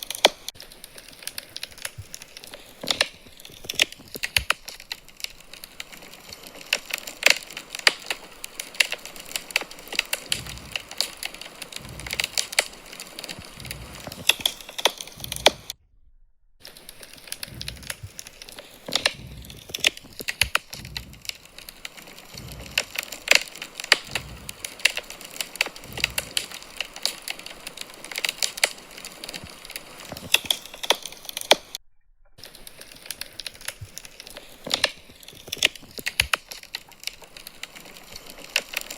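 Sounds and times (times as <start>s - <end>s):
wood fire crackling: 0.0s - 15.8s, 16.6s - 38.9s
soft low pops: 0.0s - 31.8s.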